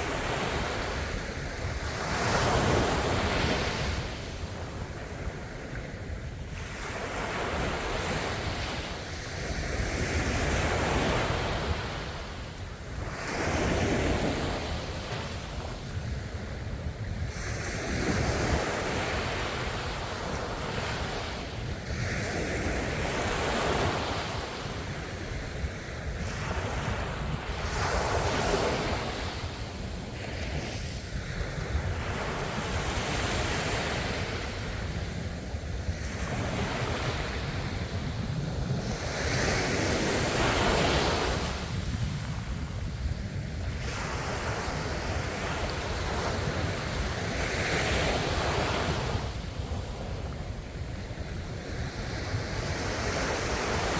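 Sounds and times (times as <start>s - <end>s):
wind rumble on microphone: 0.0s - 53.9s.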